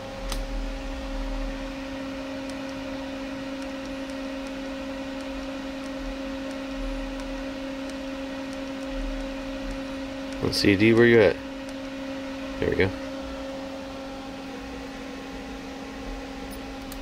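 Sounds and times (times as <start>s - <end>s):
power supply humming: 0.0s - 17.0s.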